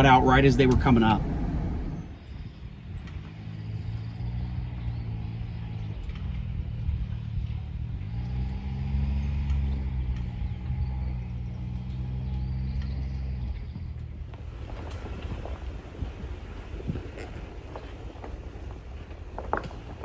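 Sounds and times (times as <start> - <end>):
suv engine running at low revs: 0.0 - 20.0.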